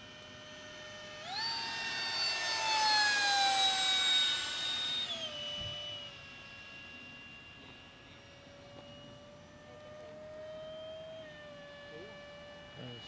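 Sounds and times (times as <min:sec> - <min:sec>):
electric ducted-fan jet whine: 0:00.0 - 0:13.0.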